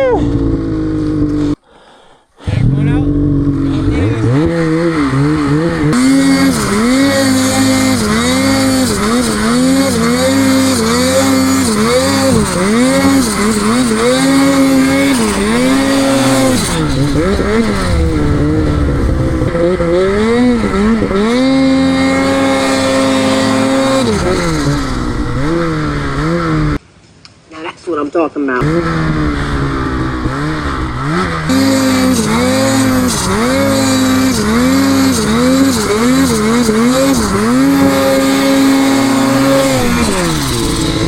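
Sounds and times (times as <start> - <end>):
snowmobile engine revving: 0.0 - 1.6, 2.4 - 26.8, 28.6 - 41.0.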